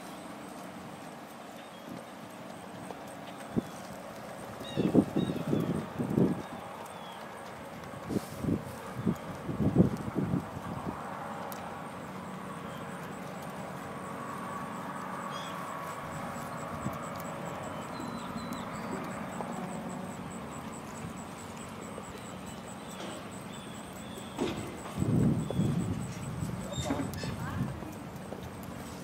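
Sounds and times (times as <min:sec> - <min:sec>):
distant engine drone: 0:00.0 - 0:29.0.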